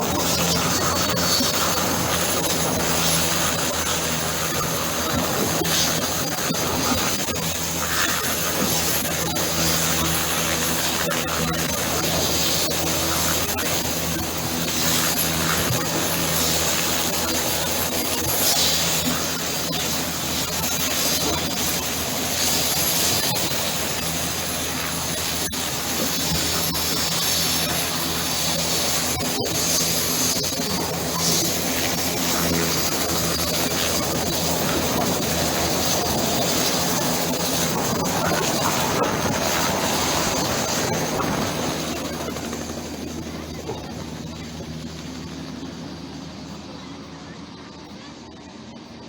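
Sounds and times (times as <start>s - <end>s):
helicopter engine and rotor: 0.0s - 49.0s.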